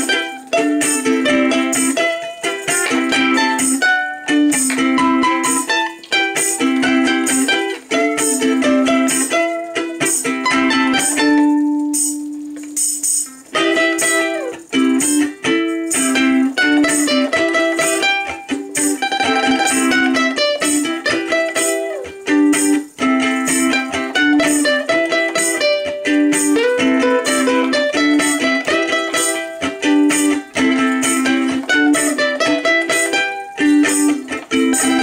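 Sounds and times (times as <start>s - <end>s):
ukuleles strumming rock riff: 0.0s - 35.0s.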